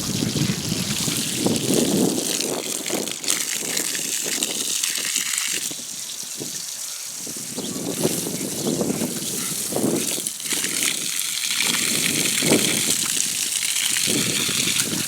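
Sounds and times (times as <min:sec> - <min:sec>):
water gushing and splashing: 0:00.0 - 0:15.0
water spatters: 0:00.0 - 0:15.0.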